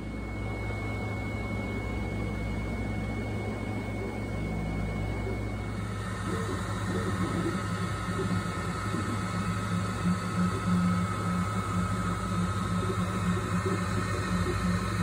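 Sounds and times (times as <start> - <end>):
printer motor tone: 0.0 - 15.0.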